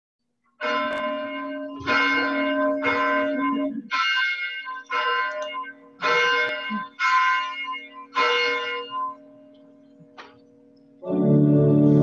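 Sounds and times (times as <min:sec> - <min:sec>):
church bell ringing: 0:00.5 - 0:11.1.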